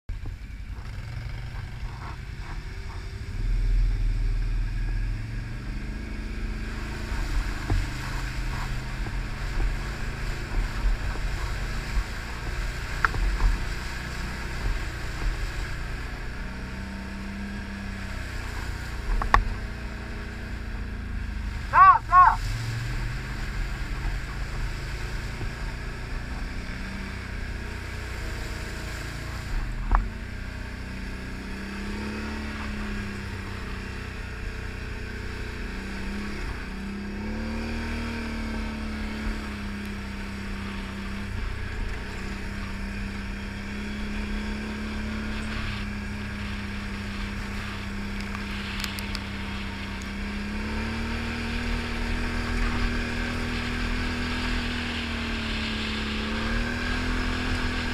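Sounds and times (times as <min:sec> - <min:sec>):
atv engine running: 0:00.1 - 0:57.9.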